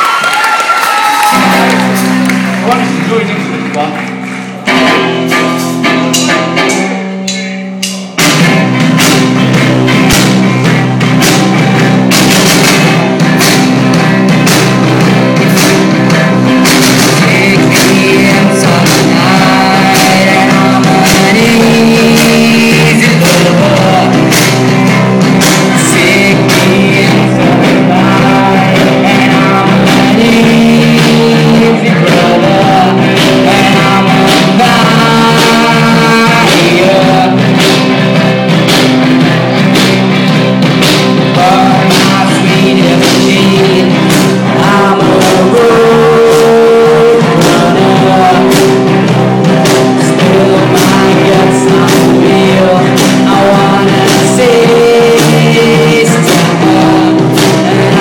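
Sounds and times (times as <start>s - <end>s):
rock band with singing: 0.0s - 58.0s.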